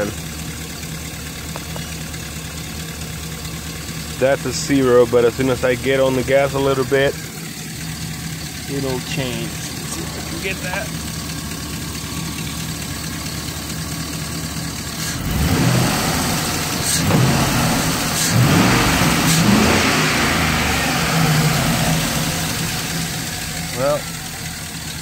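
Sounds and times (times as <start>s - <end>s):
van engine idling and revving: 0.0s - 25.0s.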